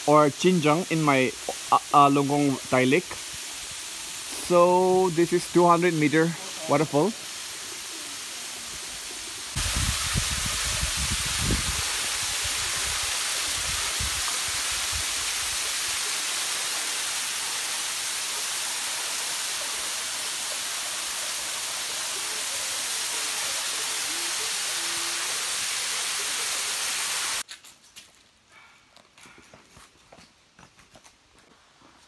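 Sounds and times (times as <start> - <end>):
waterfall pouring: 0.0 - 27.4.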